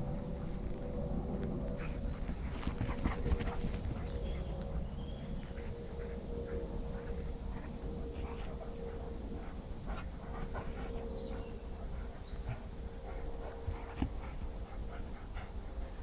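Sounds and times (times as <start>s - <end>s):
dogs panting: 0.1s - 16.0s.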